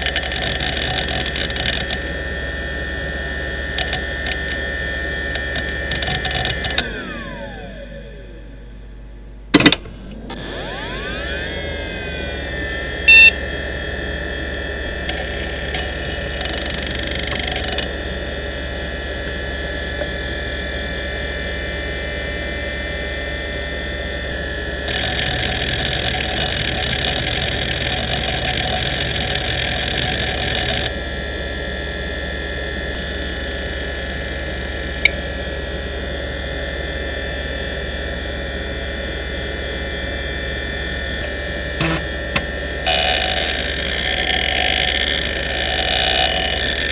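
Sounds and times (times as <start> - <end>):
hard drive whine: 0.0 - 46.9.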